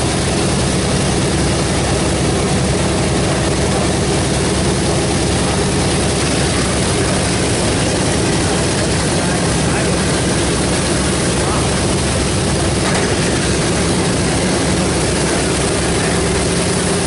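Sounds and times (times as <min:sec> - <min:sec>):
radial aircraft engines running: 0:00.0 - 0:17.0.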